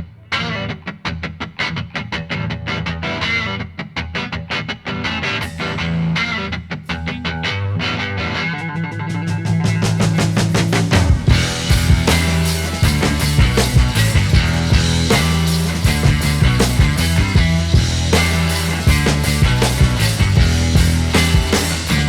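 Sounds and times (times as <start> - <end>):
rock music with electric guitar: 0.0 - 22.0.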